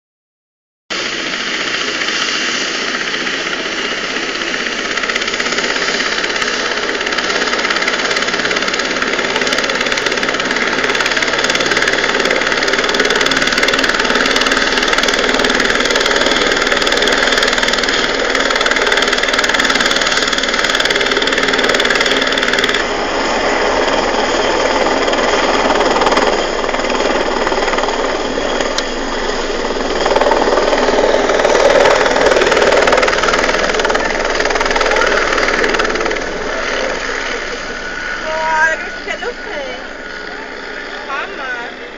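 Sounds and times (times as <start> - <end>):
helicopter engine and rotor: 0.9 - 41.9.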